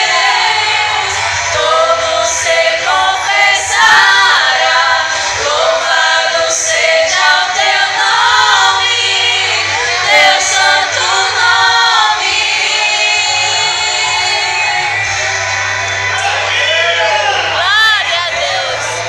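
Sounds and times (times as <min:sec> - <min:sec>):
women singing gospel song: 0:00.0 - 0:16.1, 0:17.6 - 0:19.0.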